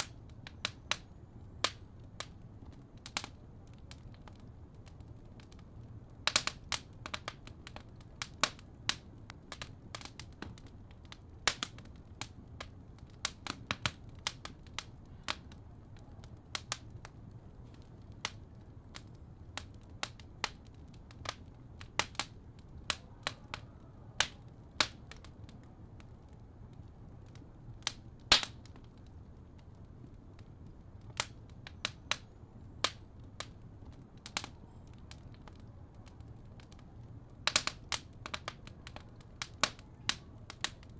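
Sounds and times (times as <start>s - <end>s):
low steady fire rumble: 0.0s - 40.9s
wood fire crackling: 0.0s - 40.9s.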